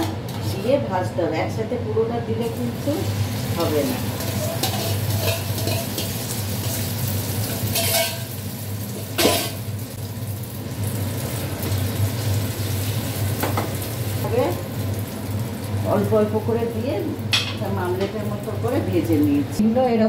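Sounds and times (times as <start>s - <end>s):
egg sizzling in frying pan: 2.6s - 19.4s.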